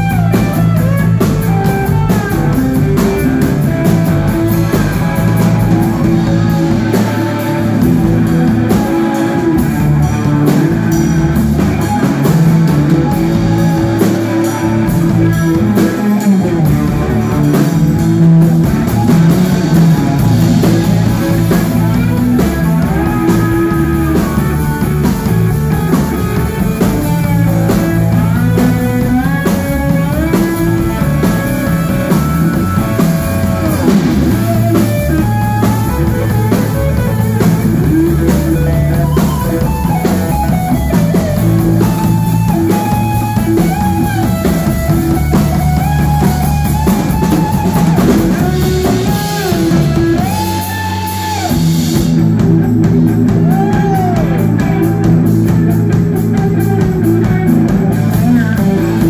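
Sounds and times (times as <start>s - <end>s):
drum kit: 0.0s - 59.0s
electric bass: 0.0s - 59.0s
lead electric guitar: 0.0s - 59.0s.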